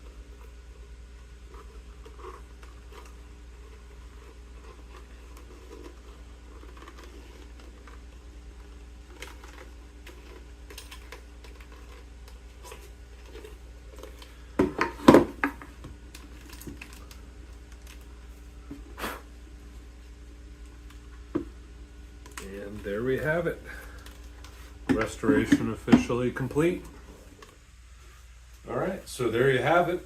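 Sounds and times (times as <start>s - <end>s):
scratching and rustling of helmet liner: 0.0s - 30.0s.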